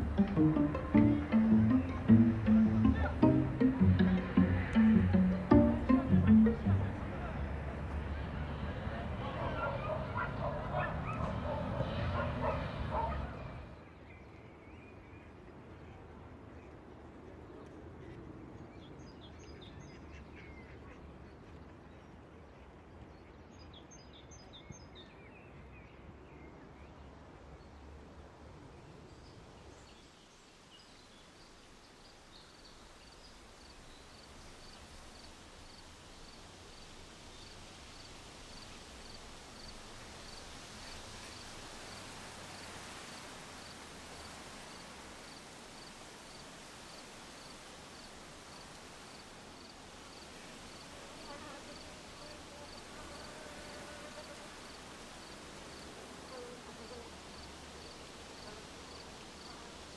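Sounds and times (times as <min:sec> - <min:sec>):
soft steady hiss: 0:00.0 - 0:09.2, 0:13.6 - 0:59.9.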